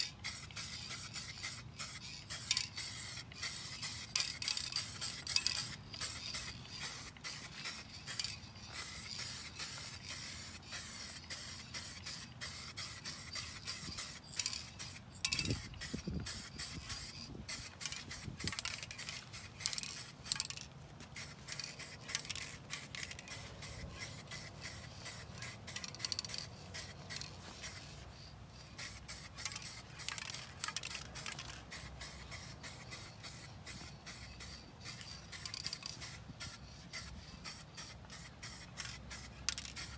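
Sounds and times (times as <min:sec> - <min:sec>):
spray paint hissing: 0:00.0 - 0:39.9.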